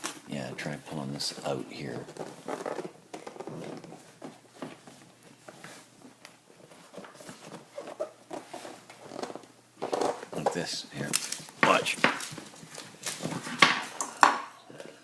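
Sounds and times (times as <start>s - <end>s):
cardboard packaging rustling: 1.2s - 13.9s.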